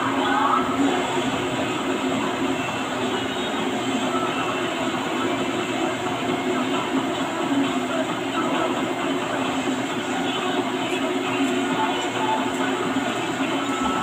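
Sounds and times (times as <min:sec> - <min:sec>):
mechanical rumble with low hum: 0:00.0 - 0:14.0.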